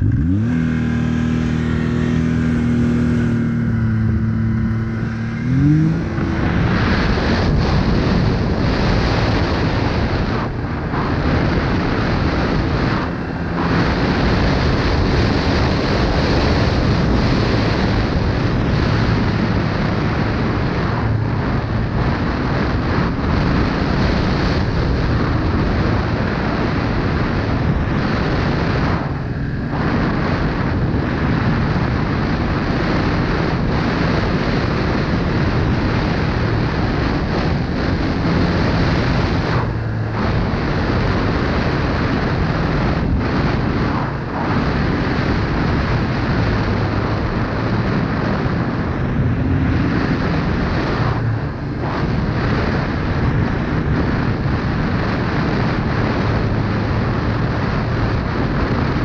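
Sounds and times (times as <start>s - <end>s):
snowmobile engine running: 0.0s - 59.0s
wind rushing over microphone: 0.0s - 59.0s.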